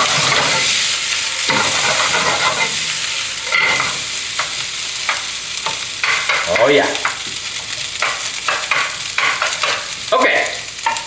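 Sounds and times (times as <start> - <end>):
spatula scraping a pan: 0.0 - 10.1
food sizzling in a frying pan: 0.0 - 11.0.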